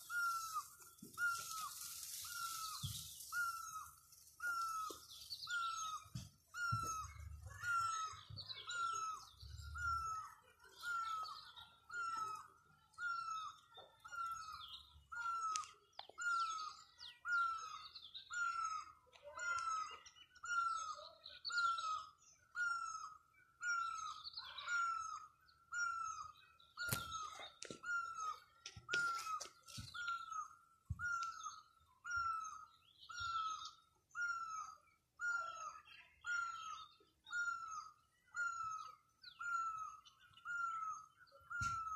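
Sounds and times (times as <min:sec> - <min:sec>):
birds chirping faintly: 0:00.0 - 0:41.9.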